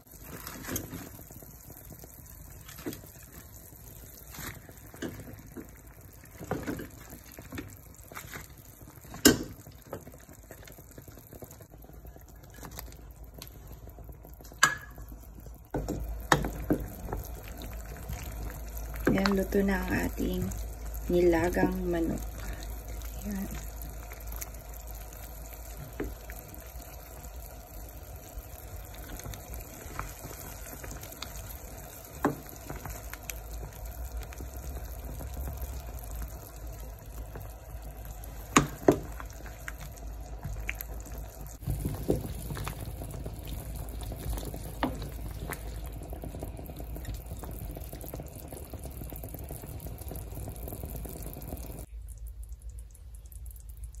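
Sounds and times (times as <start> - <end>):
soup bubbling in a pot: 0.0 - 54.0.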